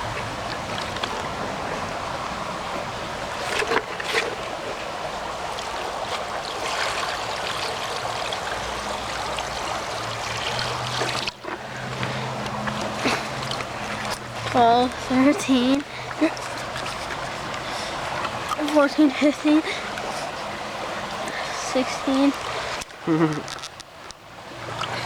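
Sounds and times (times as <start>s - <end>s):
creek flowing over rocks: 0.0s - 25.0s.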